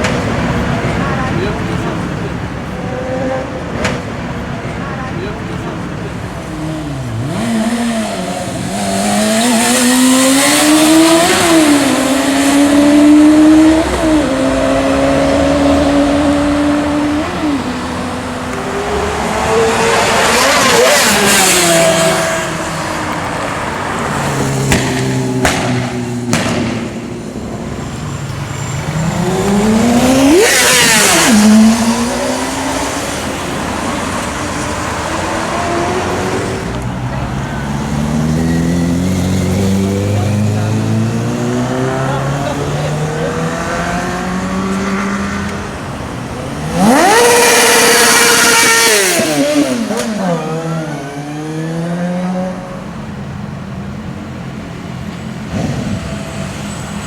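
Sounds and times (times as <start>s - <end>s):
motorcycles passing by: 0.0s - 53.1s
motorcycle engines revving: 0.0s - 57.0s.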